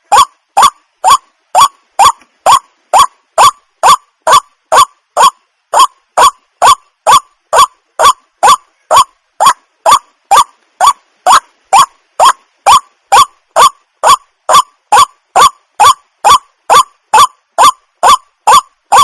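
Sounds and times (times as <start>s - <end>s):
water hen calling: 0.0s - 19.0s.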